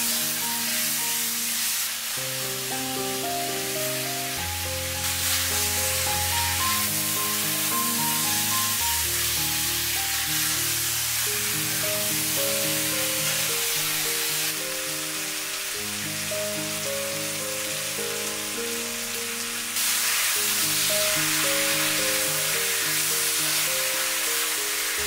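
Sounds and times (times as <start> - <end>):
background music: 0.0 - 25.0
stir-fry sizzling in a wok: 0.0 - 25.0.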